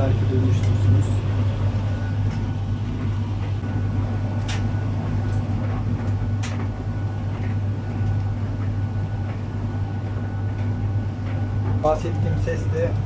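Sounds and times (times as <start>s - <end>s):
tumble dryer compressor humming: 0.0s - 13.0s.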